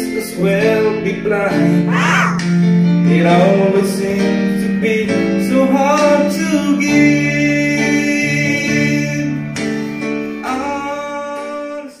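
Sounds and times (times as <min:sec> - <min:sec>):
man singing into microphone: 0:00.0 - 0:09.7, 0:10.3 - 0:12.0
karaoke backing track with guitar: 0:00.0 - 0:12.0.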